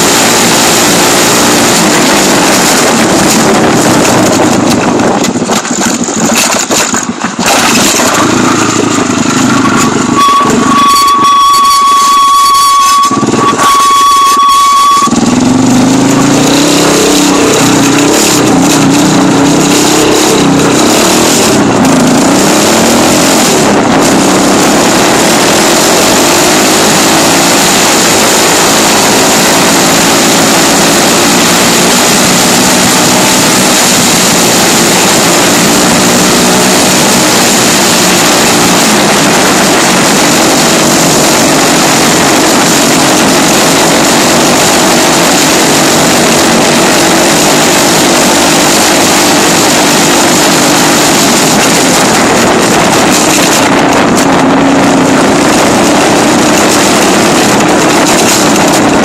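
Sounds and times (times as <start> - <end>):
dirt bike engine revving: 0.0 - 59.0
loud steady rushing noise: 0.0 - 59.0.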